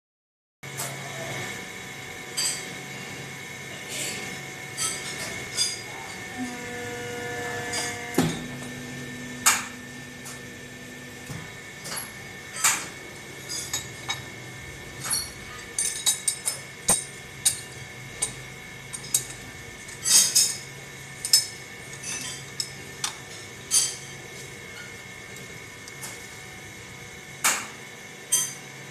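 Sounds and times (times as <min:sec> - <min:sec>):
steady machine hum: 0:00.7 - 0:28.9.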